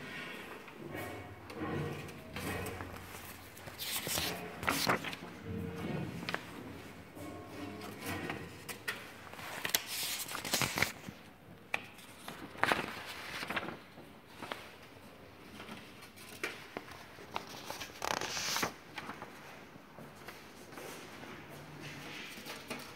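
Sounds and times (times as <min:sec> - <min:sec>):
paper flyers rustling and scraping: 0:00.8 - 0:22.9.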